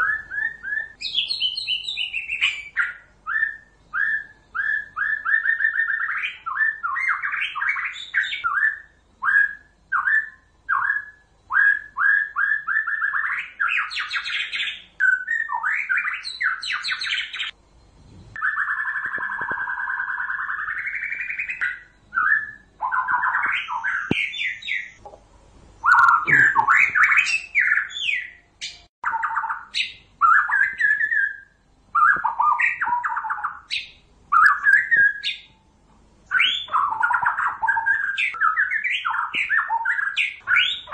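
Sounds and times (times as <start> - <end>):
songbird whistling and chattering: 0.0 - 17.6, 18.4 - 25.0, 25.8 - 35.6, 36.3 - 40.9.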